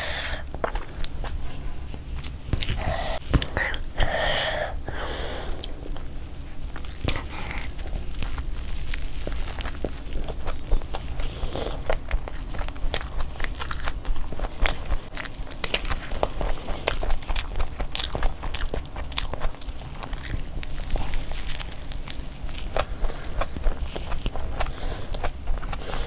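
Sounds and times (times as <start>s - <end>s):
biting and chewing: 0.4s - 3.9s, 5.5s - 26.0s.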